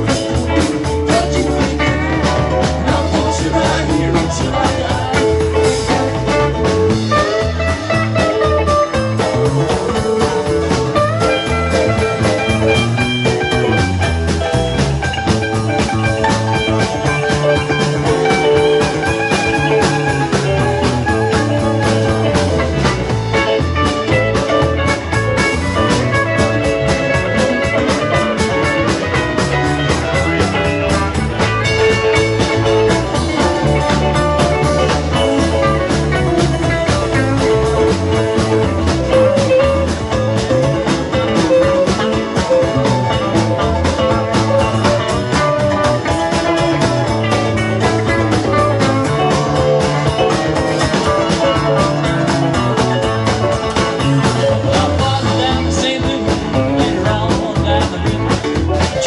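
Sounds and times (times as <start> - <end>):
bass guitar: 0.0 - 59.0
electric guitar lead lines: 0.0 - 59.0
steady drum beat: 0.0 - 59.0.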